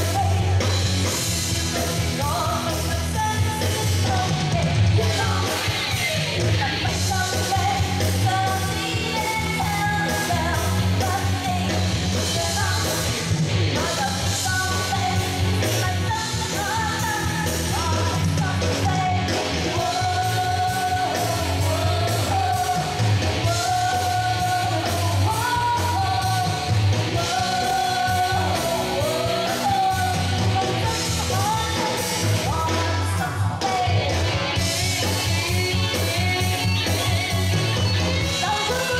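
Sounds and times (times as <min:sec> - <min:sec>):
woman singing into microphone: 0:00.0 - 0:00.9, 0:01.7 - 0:38.9
live band playing rock-pop: 0:00.0 - 0:38.9.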